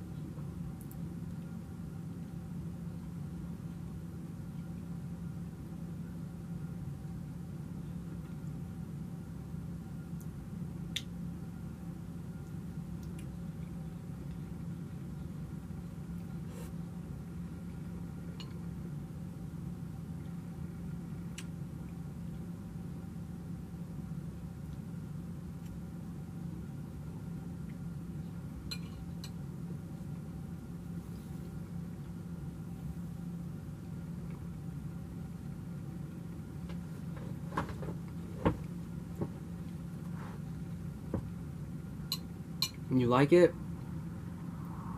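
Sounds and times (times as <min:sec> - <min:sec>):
low room hum: 0:00.0 - 0:44.9.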